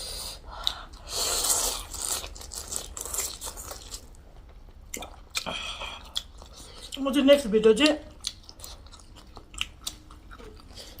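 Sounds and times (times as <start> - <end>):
person chewing food: 0.5 - 4.2, 4.8 - 7.0, 8.0 - 11.0.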